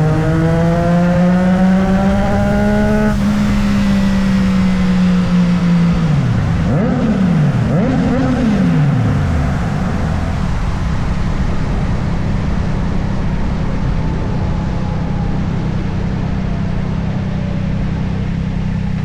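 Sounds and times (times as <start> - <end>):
motorcycle engine: 0.0 - 19.0
steady rushing noise: 0.0 - 19.0.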